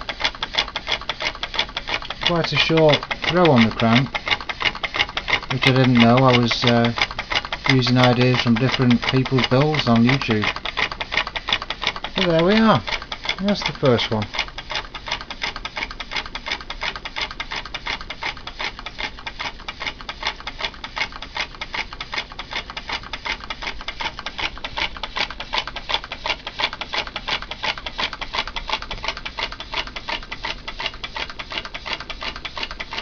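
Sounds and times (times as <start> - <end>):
small engine linkage clanking: 0.0 - 33.0.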